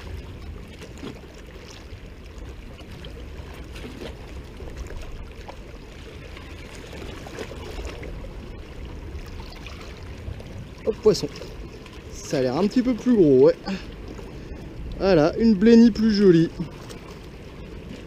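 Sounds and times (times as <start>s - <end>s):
seawater lapping against rocks: 0.0s - 18.0s.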